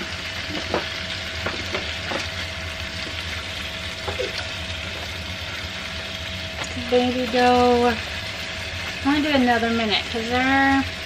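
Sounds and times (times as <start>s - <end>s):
low steady hum: 0.0s - 11.0s
meat sizzling in a skillet: 0.0s - 11.0s.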